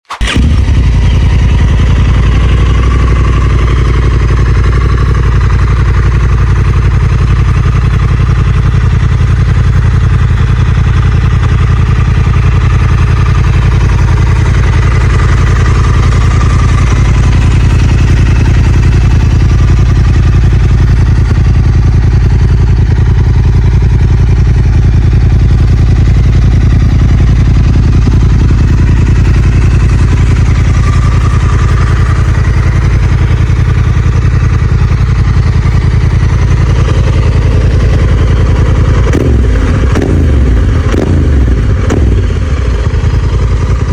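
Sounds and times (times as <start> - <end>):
motorcycle engine idling: 0.1 - 43.9.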